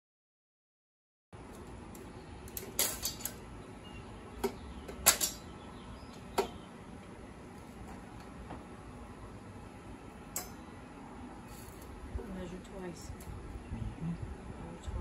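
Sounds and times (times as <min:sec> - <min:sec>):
steady low background noise: 0:01.4 - 0:15.0.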